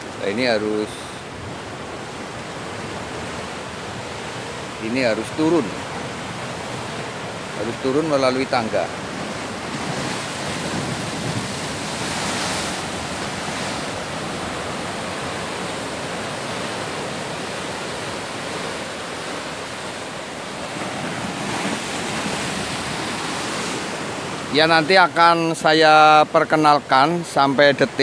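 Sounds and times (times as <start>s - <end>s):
sea surf breaking against rocks: 0.0s - 28.0s.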